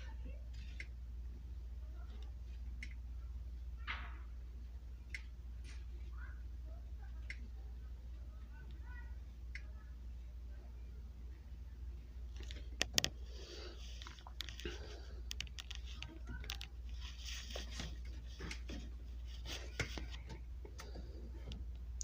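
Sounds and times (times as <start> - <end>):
faint indistinct voices: 0.0 - 21.6
steady low hum: 0.0 - 22.0.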